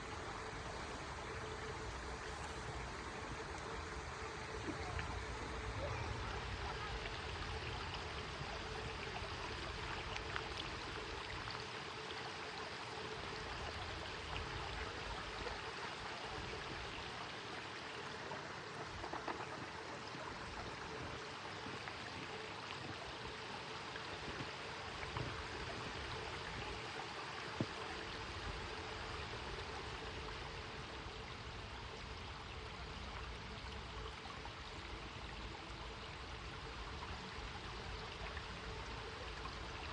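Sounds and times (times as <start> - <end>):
faint ticks and splashes: 0.0 - 39.9
stream flowing: 0.0 - 39.9.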